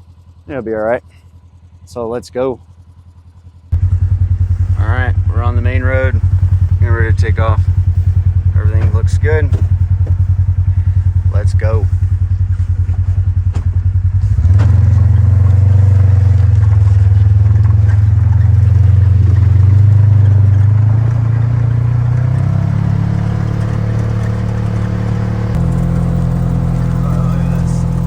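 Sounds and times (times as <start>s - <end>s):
heavy vehicle engine revving: 3.7s - 28.0s.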